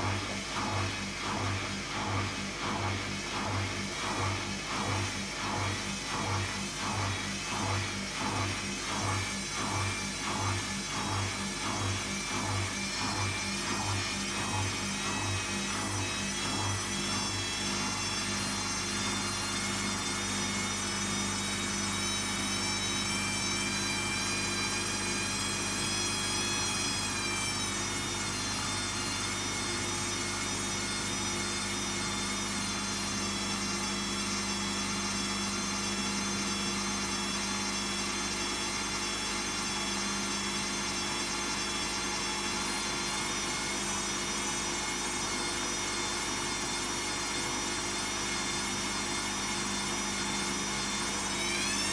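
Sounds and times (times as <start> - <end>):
washing machine spin whine: 0.0 - 51.9.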